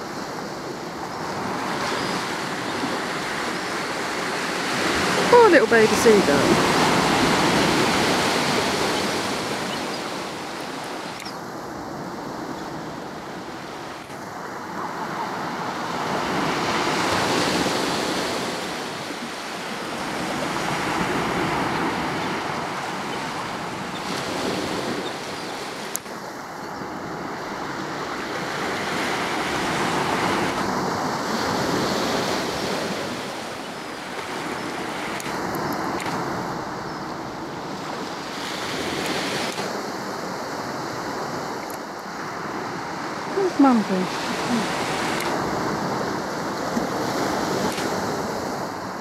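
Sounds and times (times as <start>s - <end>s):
small waves breaking on beach: 0.0s - 49.0s.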